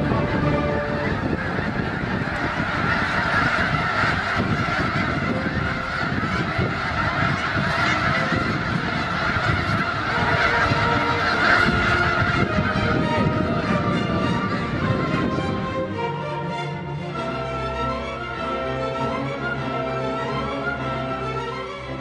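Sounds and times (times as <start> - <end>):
flock of geese honking: 0.0 - 22.0.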